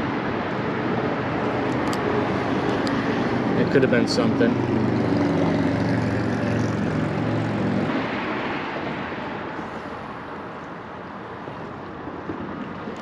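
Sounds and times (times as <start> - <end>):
passing engine hum: 0.0 - 13.0
wash of noise: 0.0 - 13.0.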